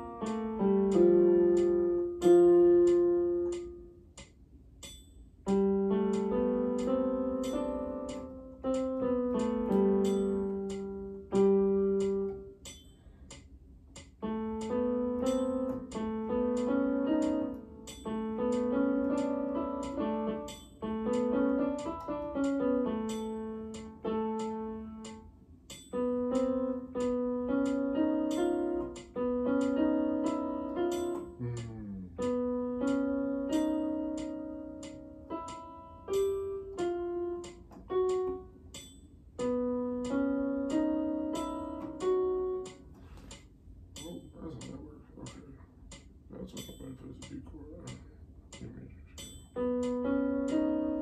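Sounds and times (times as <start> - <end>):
piano chords and phrases: 0.0 - 4.3, 5.4 - 12.8, 14.0 - 43.3, 46.3 - 51.0.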